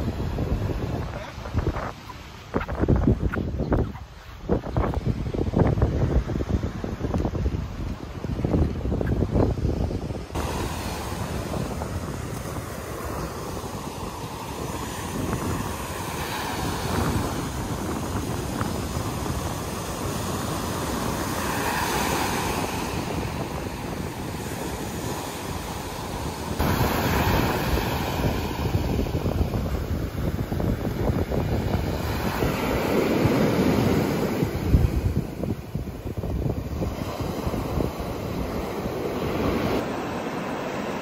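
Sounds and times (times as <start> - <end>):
surf washing on a beach: 0.0 - 41.0
wind buffeting microphone: 0.0 - 41.0.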